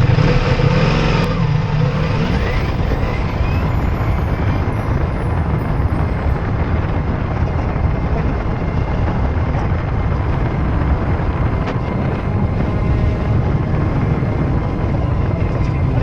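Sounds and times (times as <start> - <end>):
motorcycle engine and road noise: 0.0 - 16.0
wind buffeting: 0.0 - 16.0.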